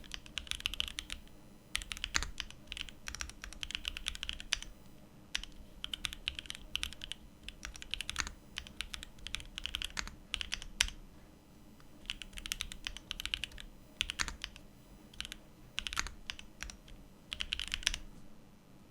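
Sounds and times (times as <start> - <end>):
mechanical keyboard typing: 0.0 - 4.7, 5.3 - 11.0, 11.8 - 18.1.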